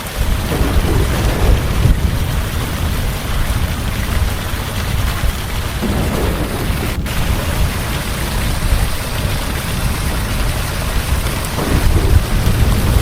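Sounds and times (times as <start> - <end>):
heavy rain pouring: 0.0 - 13.0
rolling thunder rumble: 0.0 - 13.0.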